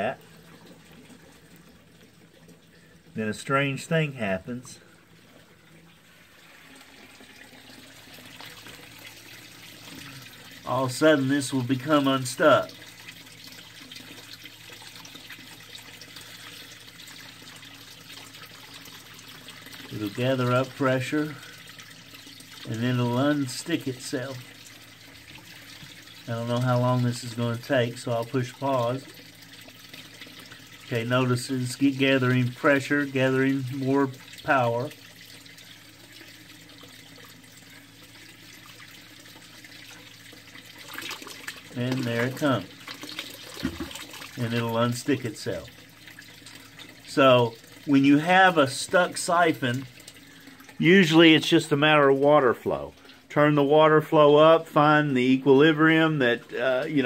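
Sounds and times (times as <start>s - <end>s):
water stream trickling and splashing: 0.0s - 57.0s.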